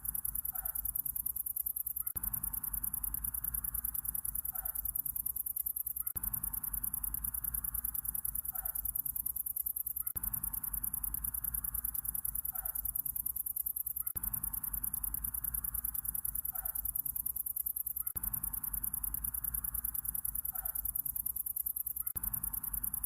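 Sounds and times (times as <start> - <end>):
night insects trilling: 0.0 - 23.0.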